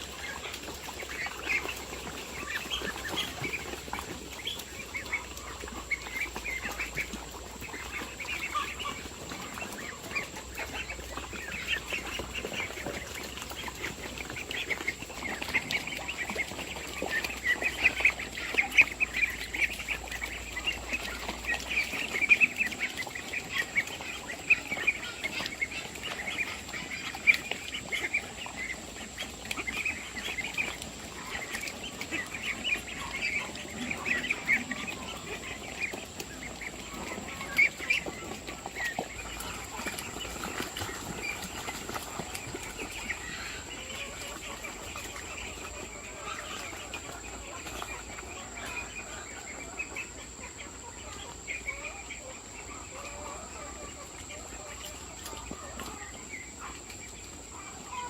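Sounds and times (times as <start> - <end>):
poultry calling: 0.0 - 58.0.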